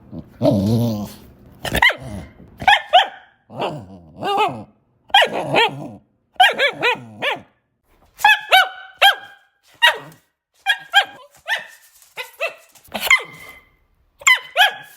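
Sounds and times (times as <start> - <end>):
dog barking: 1.7 - 7.6, 8.2 - 14.9.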